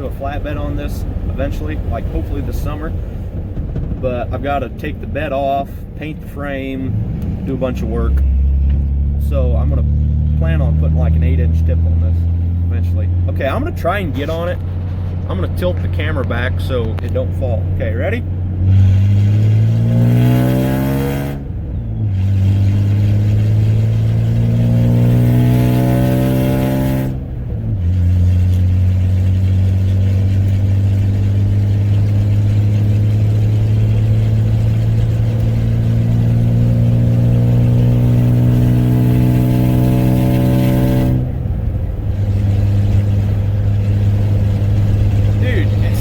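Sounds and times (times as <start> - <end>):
truck engine accelerating: 0.0 - 46.0.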